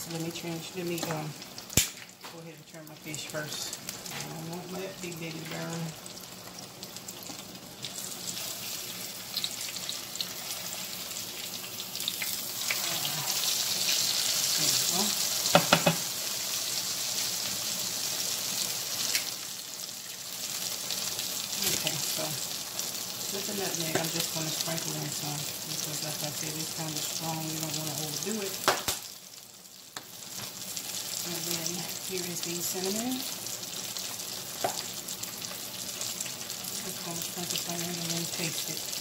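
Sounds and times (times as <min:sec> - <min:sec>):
fish sizzling in hot oil: 0:00.0 - 0:39.0.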